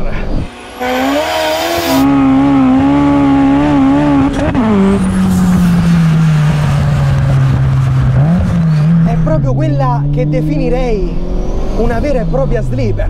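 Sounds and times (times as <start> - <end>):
car engine revving high: 0.2 - 12.8.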